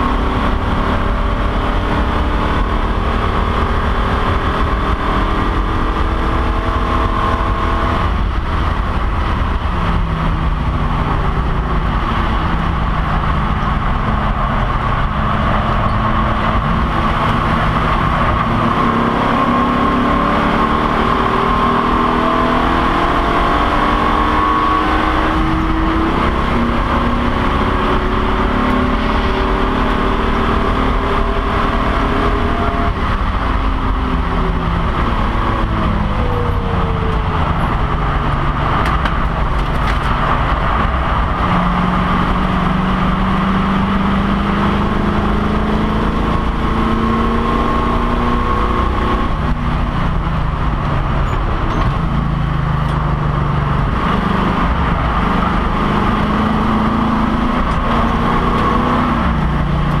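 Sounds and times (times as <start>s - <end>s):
race car engine revving: 0.0s - 60.0s
wind and road noise: 0.0s - 60.0s.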